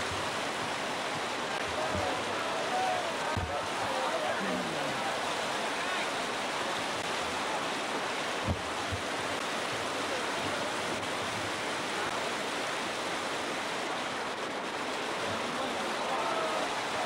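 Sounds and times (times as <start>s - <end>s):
river rapids rushing over rocks: 0.0s - 17.0s.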